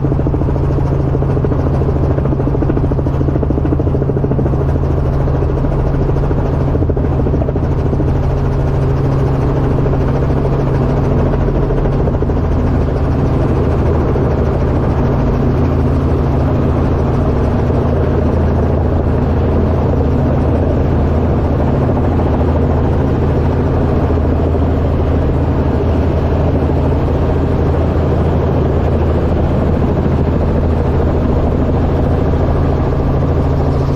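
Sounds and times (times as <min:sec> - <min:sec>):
helicopter engine and rotor: 0:00.0 - 0:33.9.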